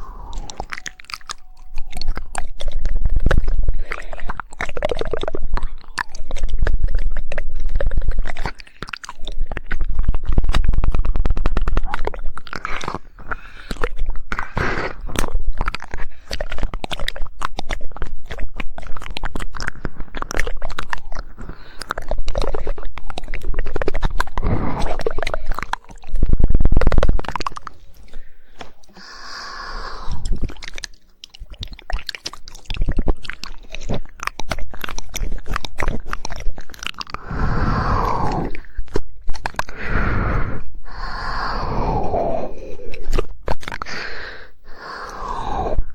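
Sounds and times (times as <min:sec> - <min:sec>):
rapid tongue clicking: 0:00.0 - 0:45.9
wet crunchy mouth noises: 0:00.0 - 0:45.9.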